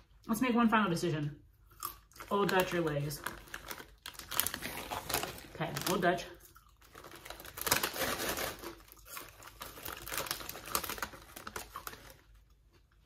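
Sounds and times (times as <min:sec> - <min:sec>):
plastic chip bag crinkling: 0:01.8 - 0:13.0.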